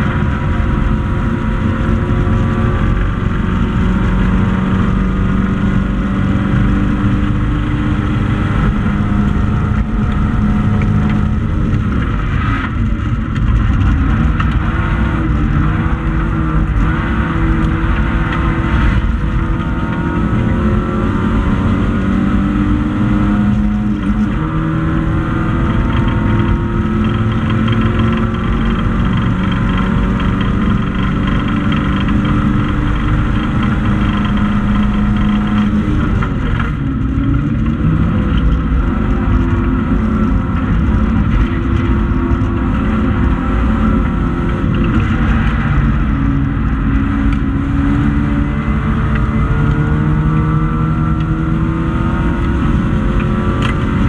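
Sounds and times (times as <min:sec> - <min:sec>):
race car engine revving high: 0:00.0 - 0:54.0.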